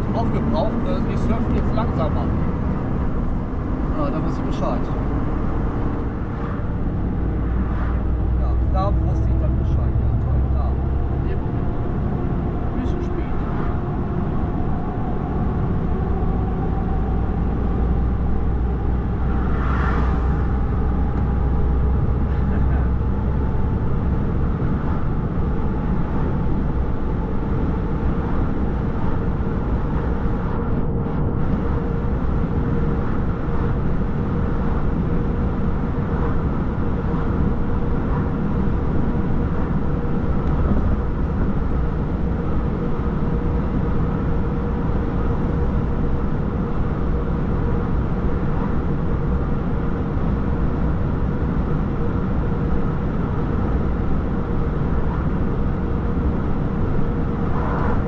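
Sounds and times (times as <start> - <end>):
vehicle rumble from inside: 0.0 - 58.0.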